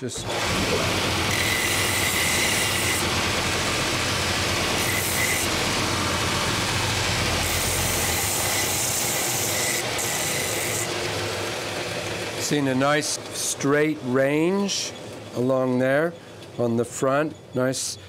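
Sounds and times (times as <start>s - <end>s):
sanding machine hum: 0.0s - 16.6s.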